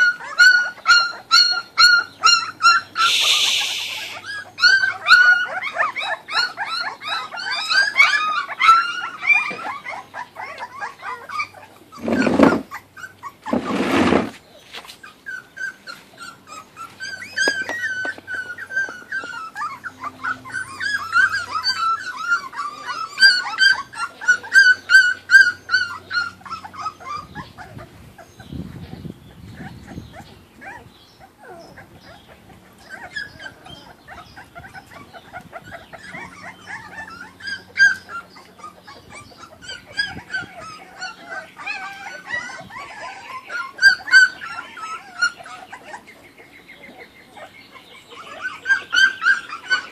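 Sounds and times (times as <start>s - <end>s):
puppies whining and squealing: 0.0s - 49.9s.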